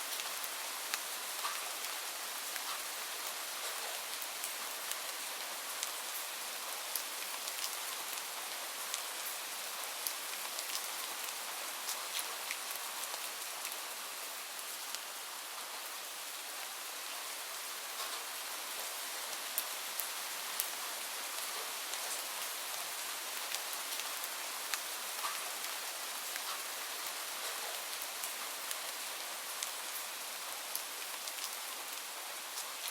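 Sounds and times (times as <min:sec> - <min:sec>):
light rain hissing: 0:00.0 - 0:32.9
raindrops ticking on a surface: 0:00.1 - 0:32.9.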